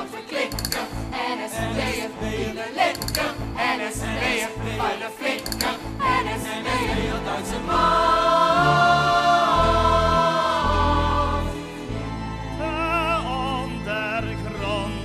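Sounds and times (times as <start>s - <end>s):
chorus singing: 0.0s - 15.0s.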